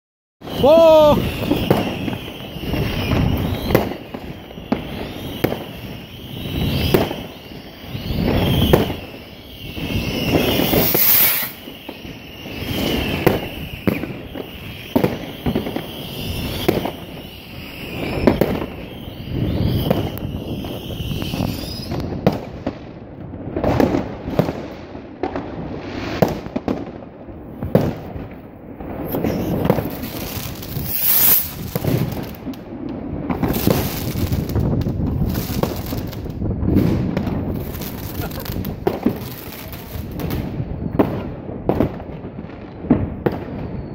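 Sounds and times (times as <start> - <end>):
fireworks bangs and crackles: 0.4 - 43.9.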